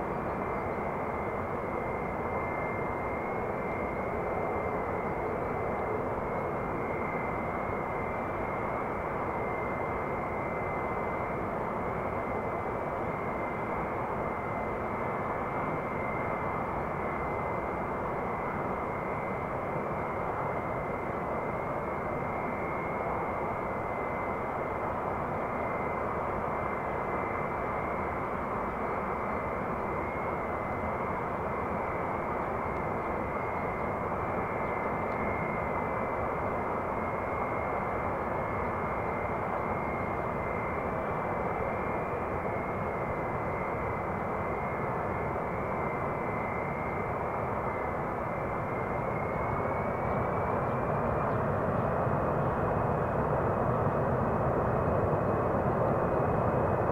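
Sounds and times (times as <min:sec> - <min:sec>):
jet engines whining and rushing: 0:00.0 - 0:56.9.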